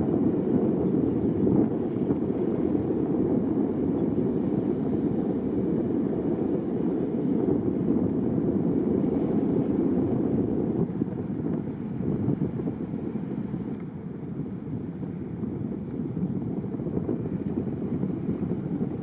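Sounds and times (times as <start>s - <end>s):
boat engine rumble: 0.0s - 19.0s
wind on microphone: 0.0s - 19.0s.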